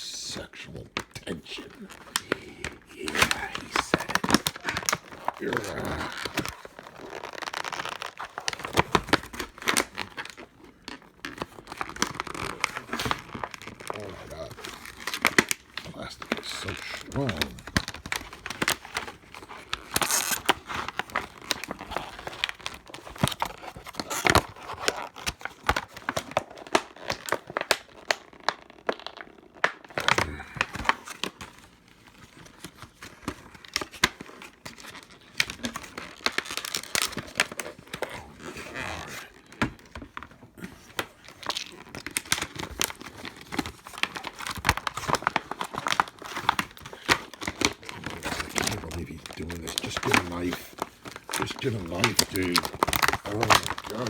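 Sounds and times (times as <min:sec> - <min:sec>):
plastic packaging crackling: 0:00.3 - 0:54.0.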